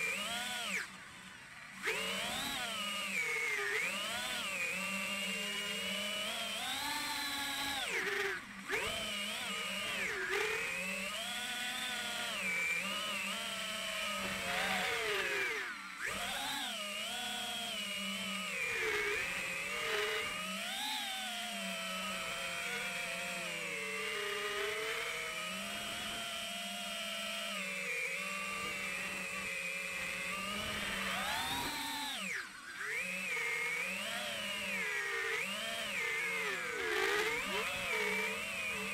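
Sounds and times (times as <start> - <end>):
drone motors whining: 0.0 - 38.9.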